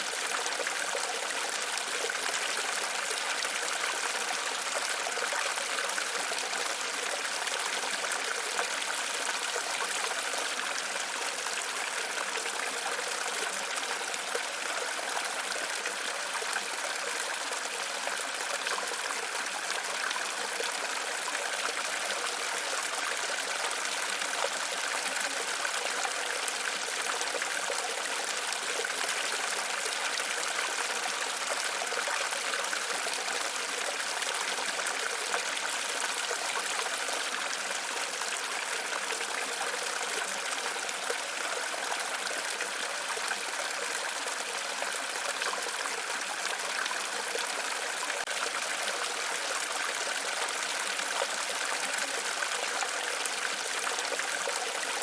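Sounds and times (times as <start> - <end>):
water running over rocks: 0.0 - 55.0.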